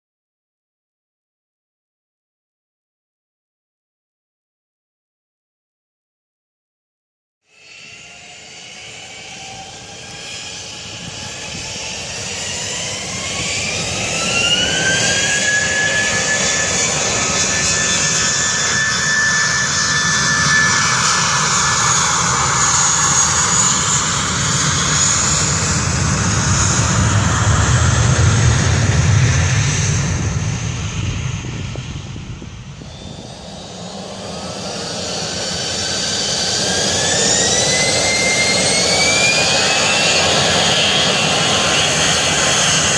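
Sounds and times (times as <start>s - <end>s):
jet engine whine: 7.4s - 42.9s
jet engines roaring: 7.5s - 42.9s.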